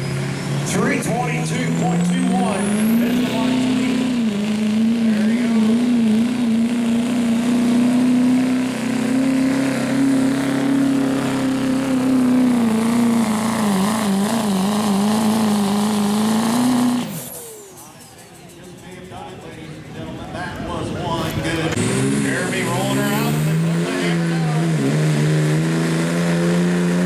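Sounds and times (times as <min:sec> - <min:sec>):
diesel engine under heavy load: 0:00.0 - 0:27.0.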